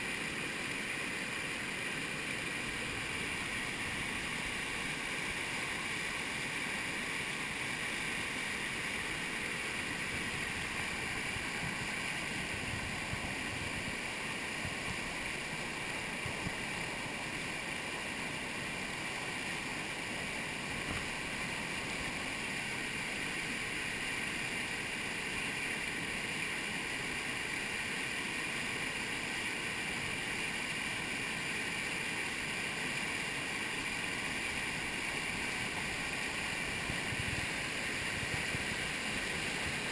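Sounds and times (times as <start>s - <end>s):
river water rushing over dam: 0.0s - 39.9s.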